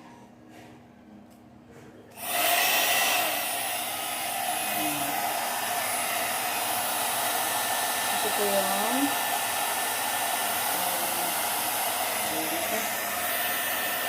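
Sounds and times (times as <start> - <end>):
hair dryer blowing air: 2.1 - 14.0.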